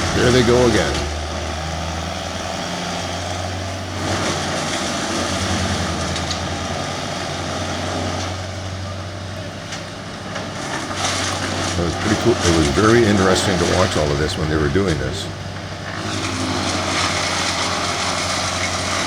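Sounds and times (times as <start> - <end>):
chainsaws running: 0.0 - 19.0
truck engine drone: 0.0 - 19.0.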